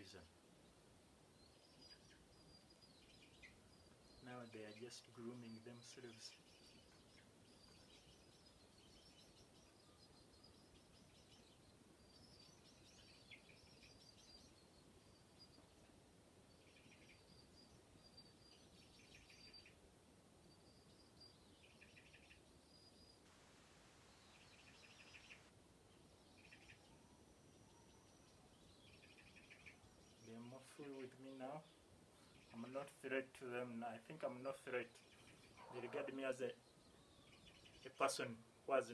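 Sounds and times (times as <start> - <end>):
faint bird chirps and trills: 0.0 - 23.3, 24.0 - 38.9
low background hiss: 0.0 - 38.9.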